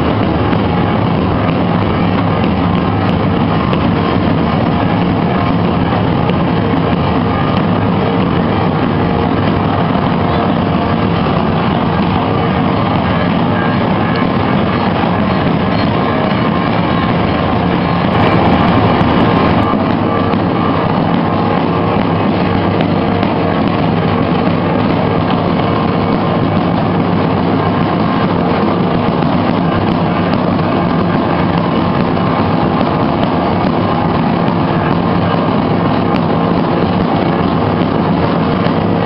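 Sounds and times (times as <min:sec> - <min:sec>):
drums playing continuous roll: 0:00.0 - 0:39.0.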